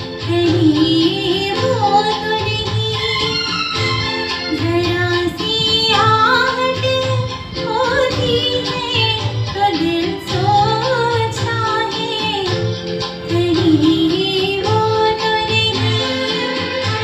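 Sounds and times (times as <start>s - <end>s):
keyboard chords: 0.0s - 17.0s
woman singing: 0.0s - 17.0s.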